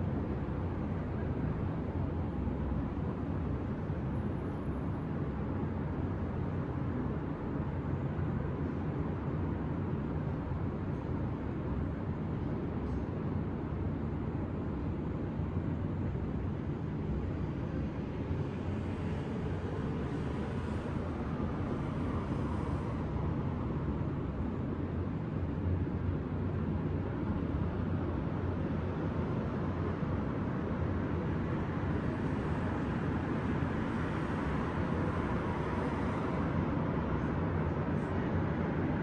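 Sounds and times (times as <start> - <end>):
distant city traffic rumble: 0.0 - 39.0.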